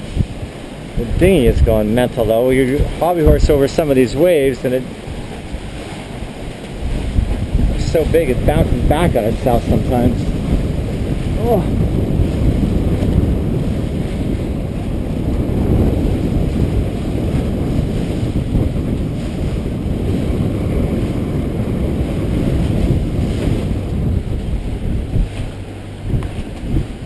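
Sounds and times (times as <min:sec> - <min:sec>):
rough seas rushing: 0:00.0 - 0:27.0
wind buffeting microphone: 0:00.0 - 0:27.0.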